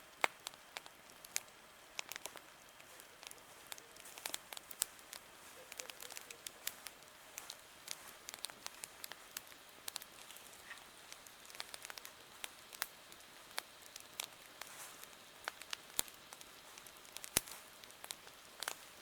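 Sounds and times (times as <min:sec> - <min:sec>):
campfire crackling: 0:00.0 - 0:19.0
faint steady hiss: 0:00.0 - 0:19.0.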